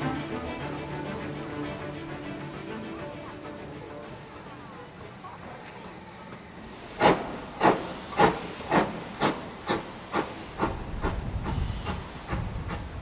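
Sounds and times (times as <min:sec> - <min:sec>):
low rumble of train: 0:00.0 - 0:13.0
steam locomotive chuffing: 0:00.0 - 0:13.0.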